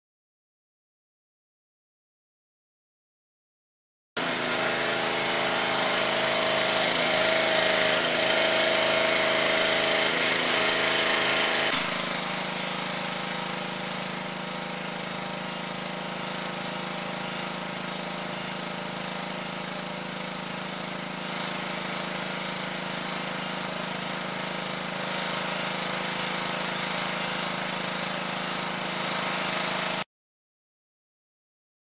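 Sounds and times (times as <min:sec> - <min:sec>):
pressure washer running: 0:04.2 - 0:30.1.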